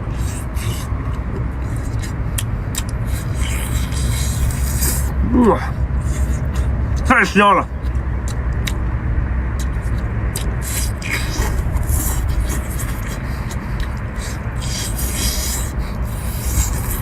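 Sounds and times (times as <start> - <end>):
low rumble: 0.0 - 17.0
person chewing food: 0.0 - 17.0.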